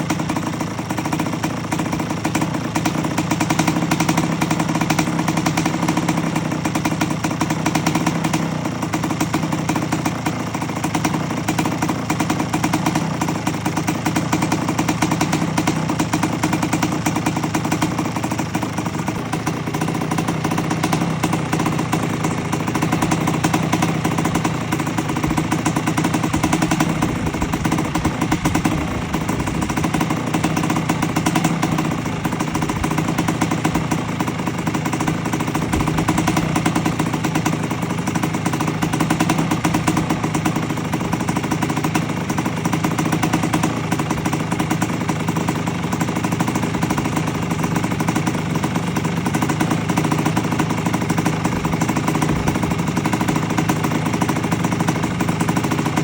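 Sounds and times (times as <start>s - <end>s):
two-stroke engine idling: 0.0s - 56.0s.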